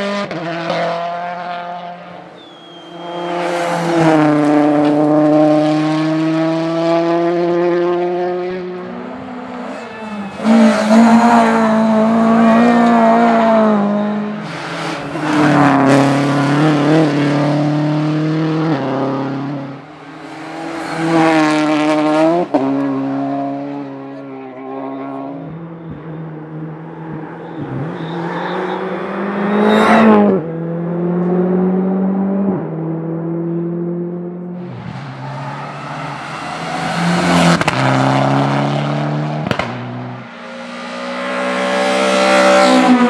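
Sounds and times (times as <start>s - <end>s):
rally car engine at high revs: 0.0s - 43.0s.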